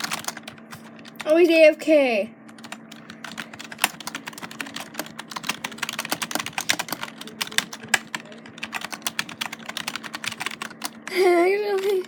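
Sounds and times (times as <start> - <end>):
typing on computer keyboard: 0.0 - 1.2, 2.5 - 11.0
faint low hum: 0.0 - 12.0.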